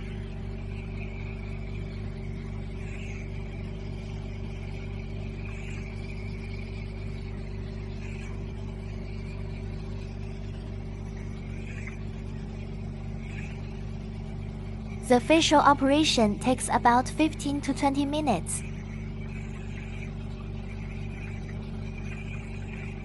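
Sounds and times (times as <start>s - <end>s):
machine motor hum with whine: 0.0s - 23.0s.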